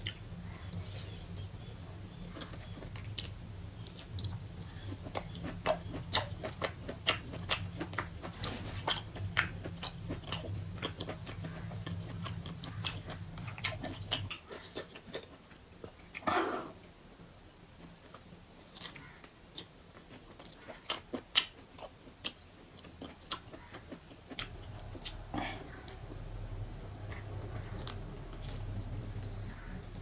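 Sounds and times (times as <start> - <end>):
chewing and gnawing meat: 0.0 - 16.3, 17.8 - 30.0
low steady hum: 0.0 - 30.0.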